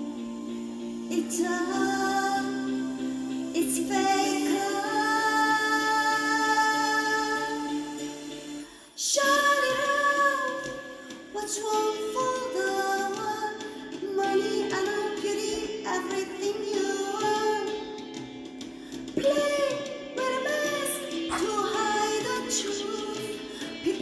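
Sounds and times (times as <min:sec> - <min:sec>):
woman singing a ballad: 0:00.0 - 0:24.0.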